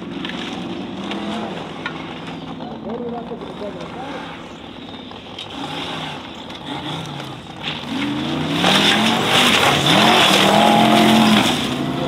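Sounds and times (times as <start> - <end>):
buggy engine revving hard: 0.0 - 12.0
tyres spinning on gravel: 0.0 - 12.0.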